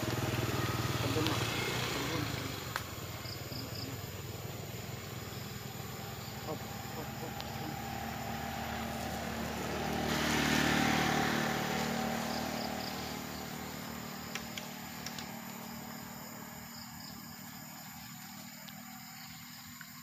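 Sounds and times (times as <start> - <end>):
vehicle passing by: 0.0 - 19.6
low engine hum: 0.0 - 20.0.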